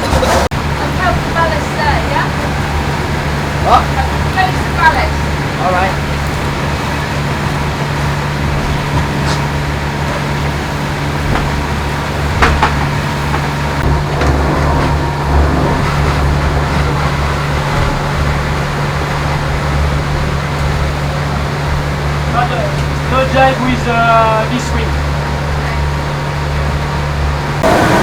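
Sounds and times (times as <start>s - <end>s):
sharp knocks through boat: 0.0s - 23.1s
low drone of hull: 0.0s - 28.0s
rushing water: 0.0s - 28.0s.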